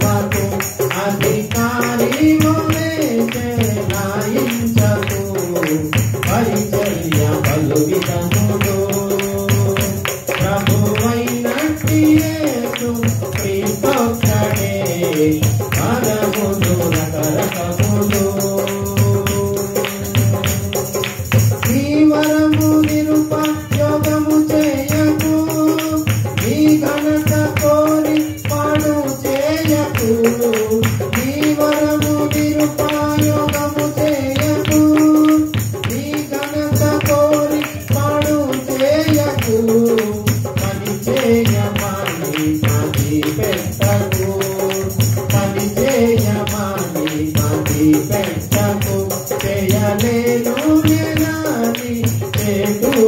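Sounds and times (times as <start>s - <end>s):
man singing into microphone: 0.0s - 53.0s
steady percussion beat: 0.0s - 53.0s.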